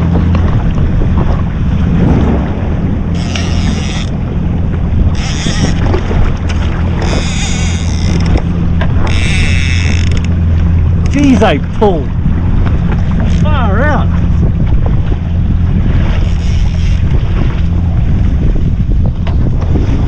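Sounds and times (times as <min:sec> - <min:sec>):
jet ski engine humming: 0:00.0 - 0:20.0
wind hissing on microphone: 0:00.6 - 0:10.3, 0:12.0 - 0:20.0.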